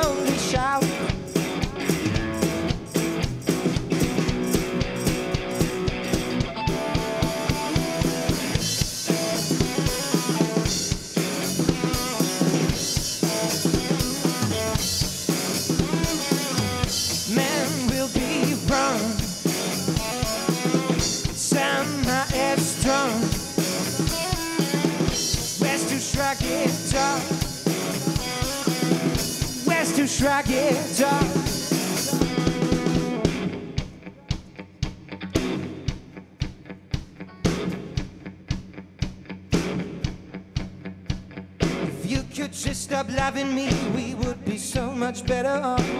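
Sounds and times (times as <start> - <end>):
drum kit played hard: 0.0 - 45.9
electric guitar with bending notes: 0.0 - 45.9.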